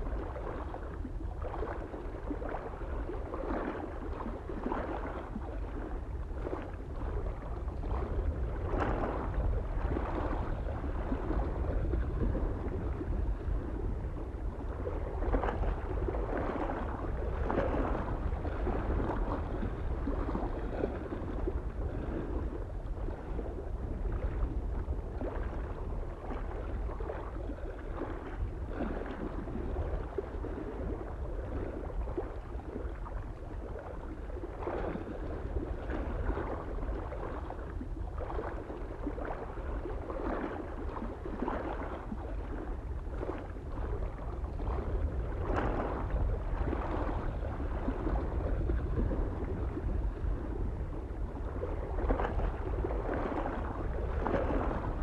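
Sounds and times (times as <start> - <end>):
small waves lapping on shore: 0.0 - 55.0
wind rumble on microphone: 0.0 - 55.0.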